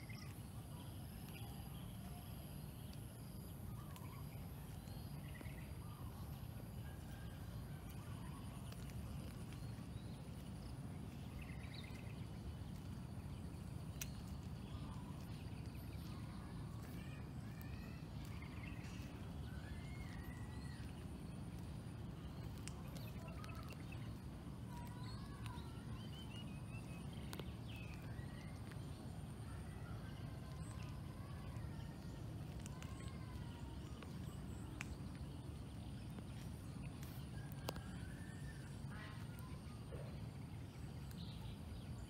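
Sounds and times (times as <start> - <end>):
birds chirping: 0.0 - 42.0
low outdoor rumble: 0.0 - 42.0.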